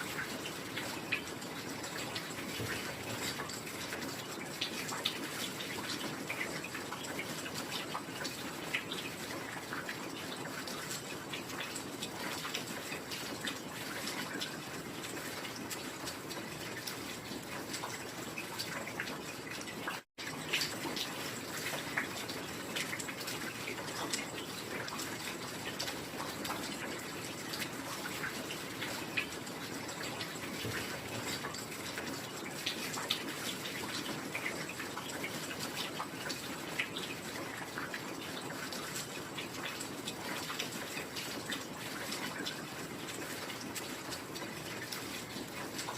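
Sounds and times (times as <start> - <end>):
raindrops striking close by: 0.0 - 45.9.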